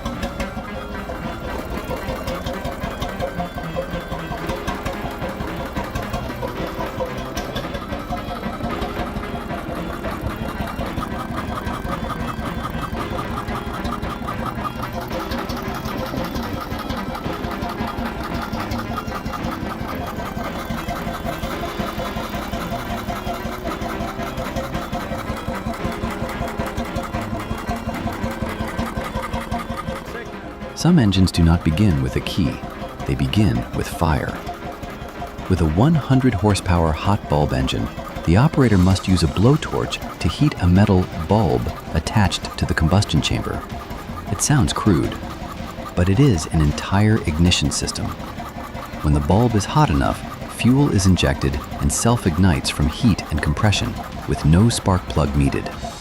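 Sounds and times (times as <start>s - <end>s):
engine running with rhythmic beat: 0.0s - 56.0s.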